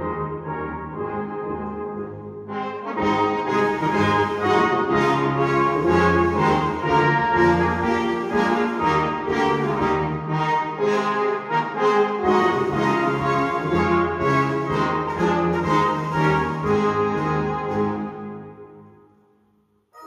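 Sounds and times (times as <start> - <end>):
brass band playing: 0.0 - 18.7.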